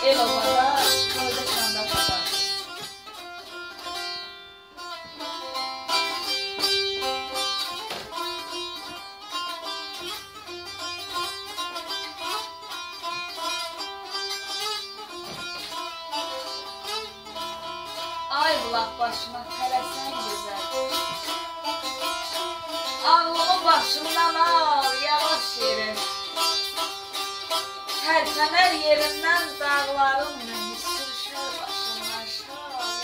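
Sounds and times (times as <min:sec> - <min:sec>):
plucked lute melody: 0:00.0 - 0:33.0.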